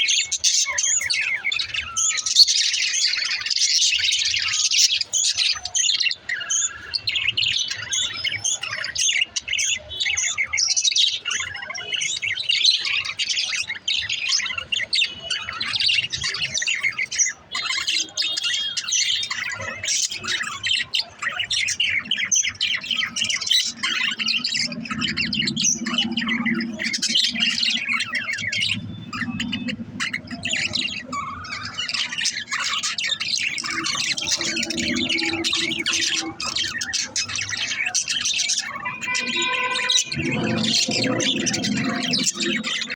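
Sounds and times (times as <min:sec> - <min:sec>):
budgerigars chattering: 0:00.0 - 0:42.9.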